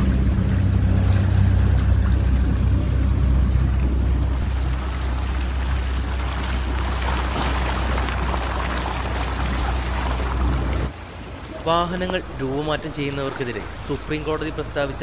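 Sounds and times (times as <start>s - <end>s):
floodwater rushing and splashing: 0.0s - 15.0s
steady low rumble: 0.0s - 15.0s.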